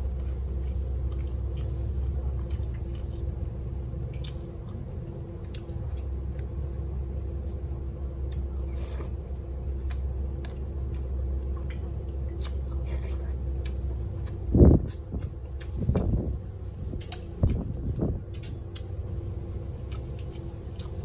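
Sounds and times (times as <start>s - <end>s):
biting and chewing: 0.0s - 21.0s
steady low hum: 0.0s - 21.0s.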